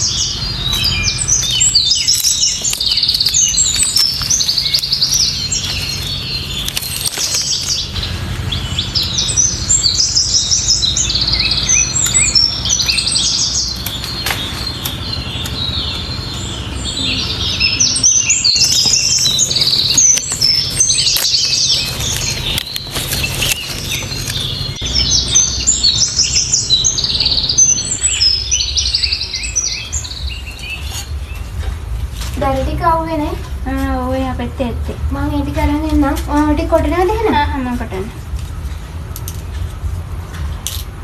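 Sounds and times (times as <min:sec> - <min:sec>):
birds chirping and twittering: 0:00.0 - 0:41.0.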